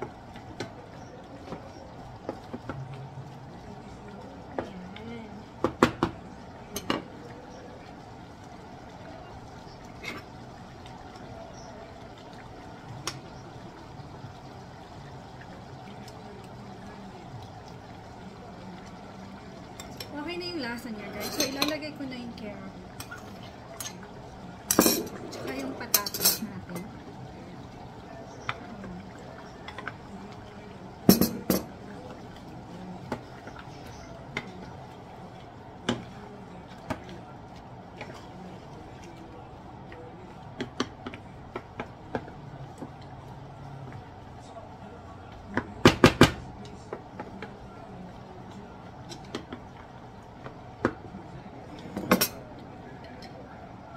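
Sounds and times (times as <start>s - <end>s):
sauce simmering in a pot: 0.0s - 53.9s.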